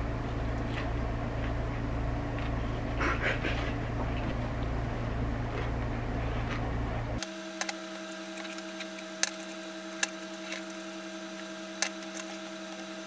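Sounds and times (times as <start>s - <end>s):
loud low hum: 0.0s - 13.0s
steady hum: 0.0s - 13.0s.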